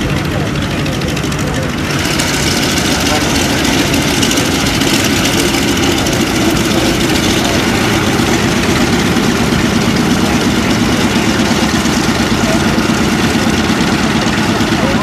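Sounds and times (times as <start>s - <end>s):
radial aircraft engine rumbling: 0.0s - 15.0s.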